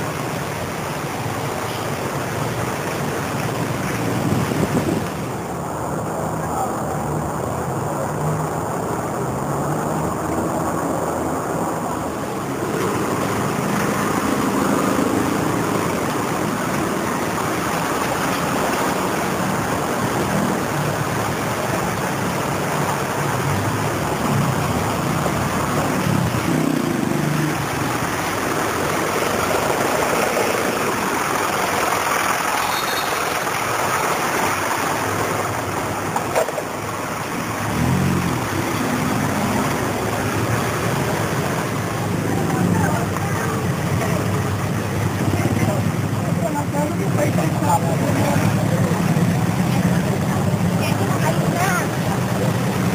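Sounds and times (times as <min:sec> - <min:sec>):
traffic passing: 0:00.0 - 0:52.9.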